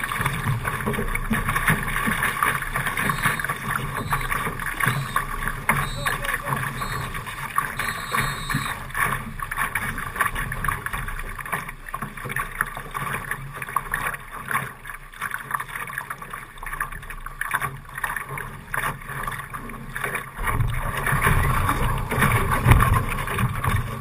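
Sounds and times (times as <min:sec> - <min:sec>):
water rushing along boat hull: 0:00.0 - 0:24.0.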